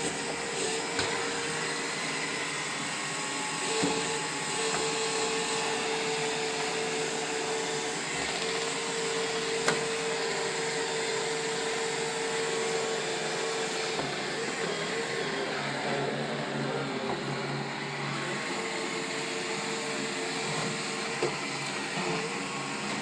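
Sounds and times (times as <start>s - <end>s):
robot vacuum whirring: 0.0s - 23.0s.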